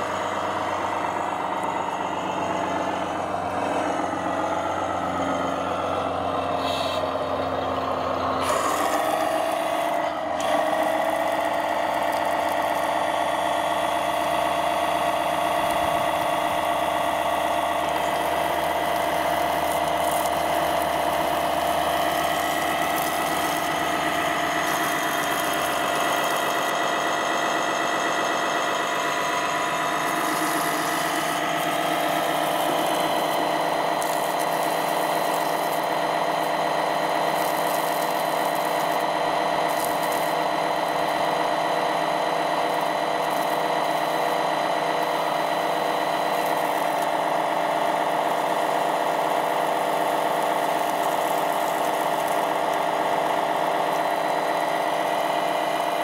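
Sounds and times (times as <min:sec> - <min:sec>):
electric water pump whining: 0:00.0 - 0:56.0.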